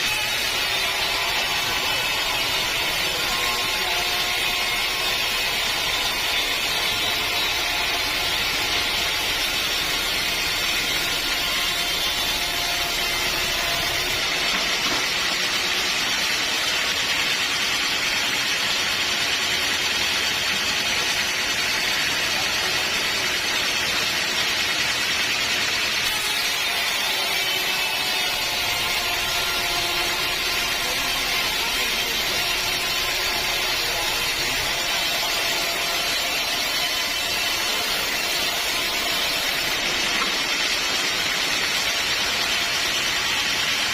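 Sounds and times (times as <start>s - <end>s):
band saw sawing through log: 0.0s - 43.9s.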